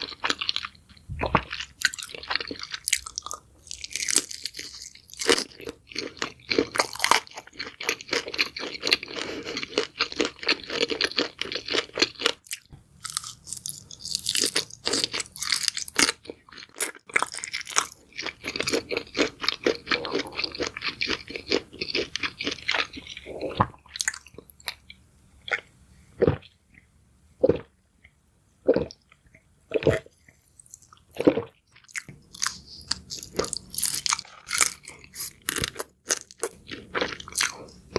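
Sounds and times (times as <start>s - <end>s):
crunchy chewing: 0.0s - 25.7s, 29.7s - 37.9s.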